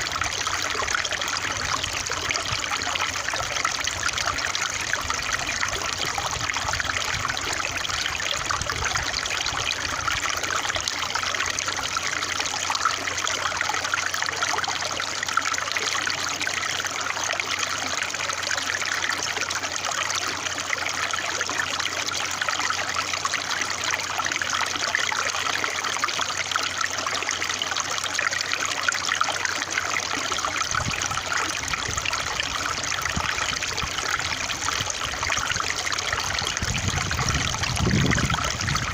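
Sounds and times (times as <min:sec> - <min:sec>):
stream trickling and babbling: 0:00.0 - 0:38.9.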